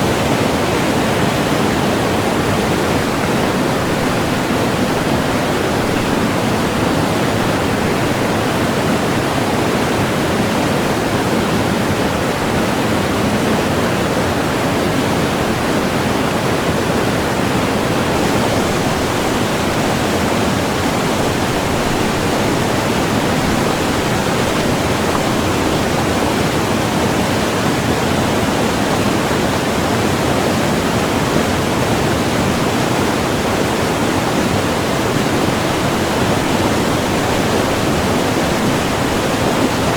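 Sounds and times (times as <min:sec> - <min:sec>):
rushing white water: 0:00.0 - 0:39.9.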